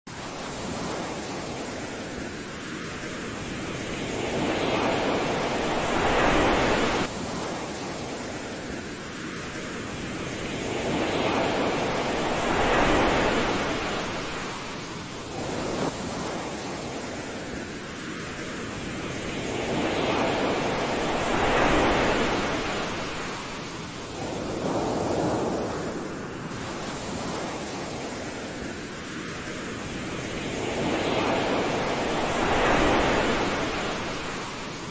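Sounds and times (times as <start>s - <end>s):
ocean waves washing up a beach: 0.1s - 34.9s.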